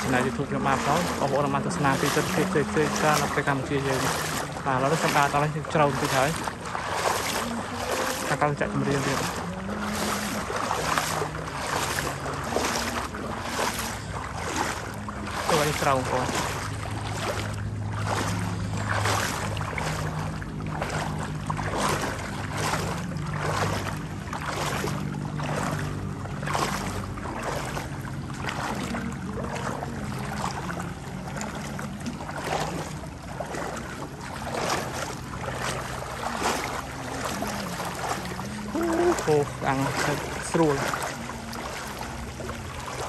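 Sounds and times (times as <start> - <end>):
low engine hum: 0.0 - 43.0
rhythmic water splashing: 0.0 - 43.0.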